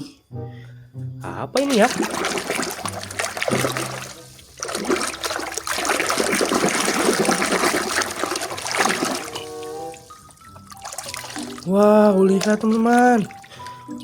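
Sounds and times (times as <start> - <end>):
water splashing and trickling: 1.6 - 14.0.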